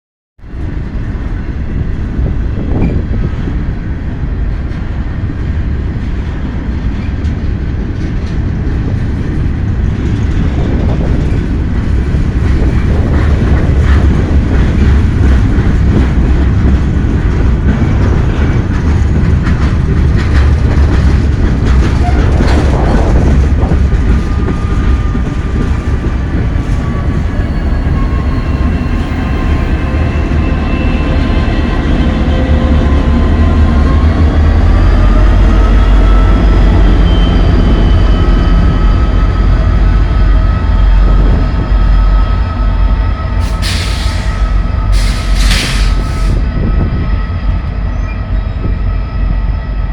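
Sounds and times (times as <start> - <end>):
diesel locomotive rumble: 0.4 - 49.9.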